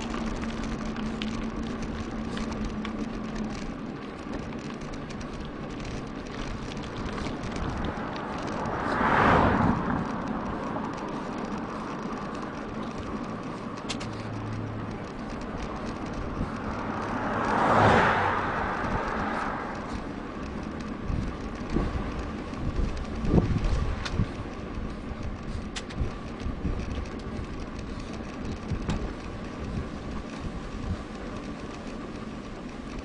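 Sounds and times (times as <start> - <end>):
vehicles passing: 0.0 - 33.0
wind and rolling noise: 0.0 - 33.0.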